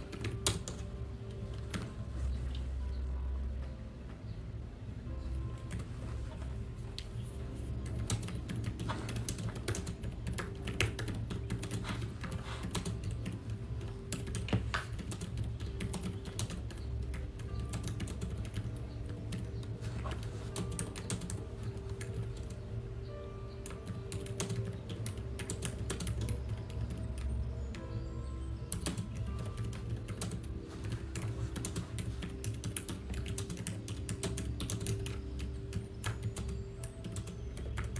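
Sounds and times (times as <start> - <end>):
soft background music: 0.0 - 37.9.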